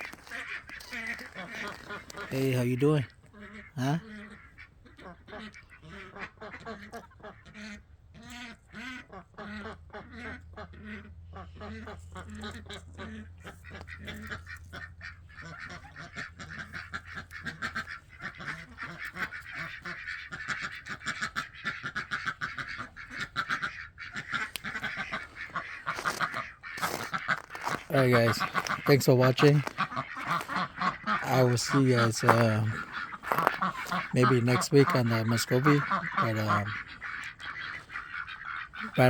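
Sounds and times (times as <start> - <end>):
ducks calling: 0.0 - 39.0.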